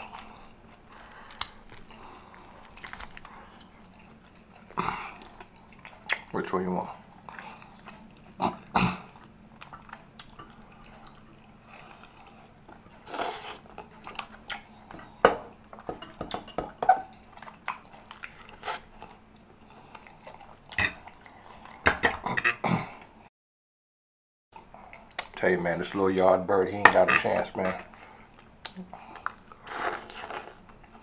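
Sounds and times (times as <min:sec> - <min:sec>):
chewing and wet mouth sounds: 0:00.0 - 0:15.8, 0:16.6 - 0:21.8, 0:24.6 - 0:25.5, 0:27.2 - 0:31.0.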